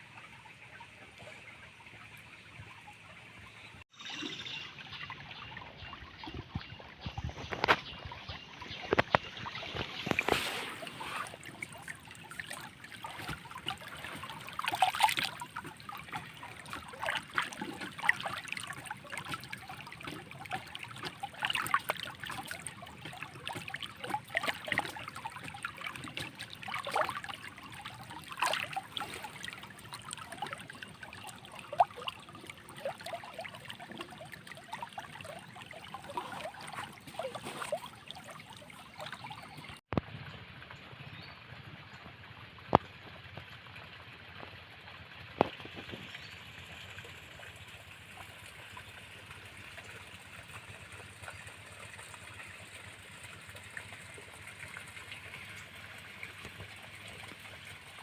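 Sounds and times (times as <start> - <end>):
stream trickling and splashing: 0.0 - 58.0.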